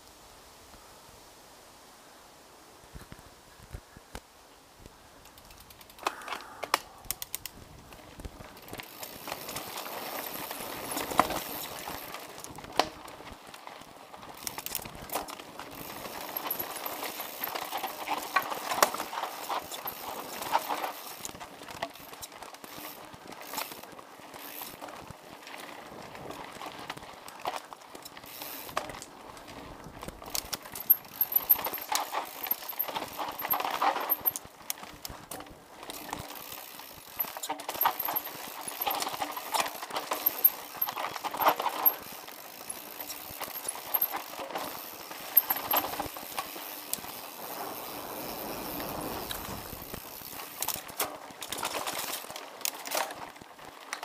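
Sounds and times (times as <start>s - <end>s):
bike tyres crunching on dirt: 7.3s - 54.0s
bike rattling and knocking: 7.9s - 54.0s.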